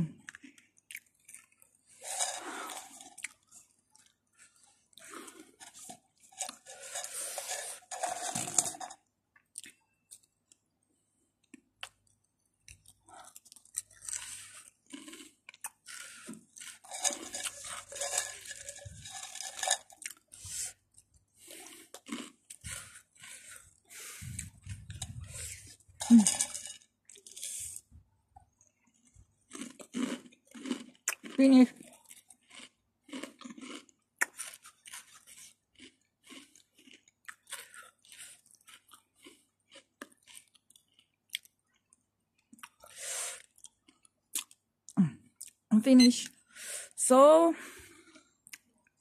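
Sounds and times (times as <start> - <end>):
chewing and crunching crisps: 0.0 - 45.7, 47.7 - 49.0.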